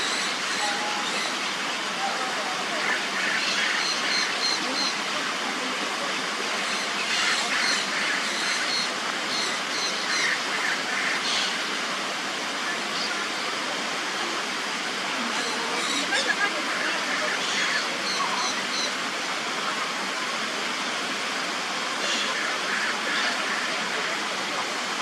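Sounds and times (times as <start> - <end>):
falling water rushing: 0.0 - 25.0.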